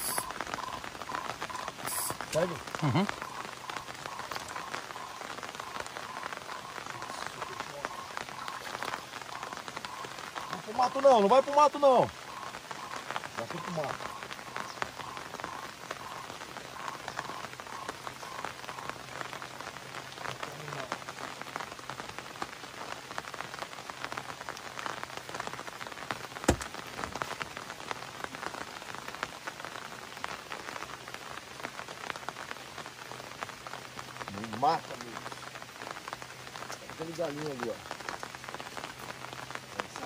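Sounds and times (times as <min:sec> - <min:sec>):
steady rain pattering: 0:00.0 - 0:40.0.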